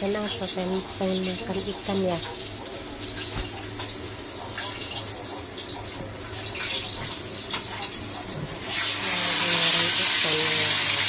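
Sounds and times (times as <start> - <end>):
loud sizzling: 0.0 - 11.0.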